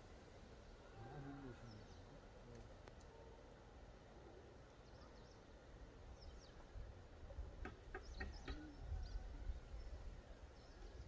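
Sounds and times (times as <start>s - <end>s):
birds chirping: 0.4s - 11.0s.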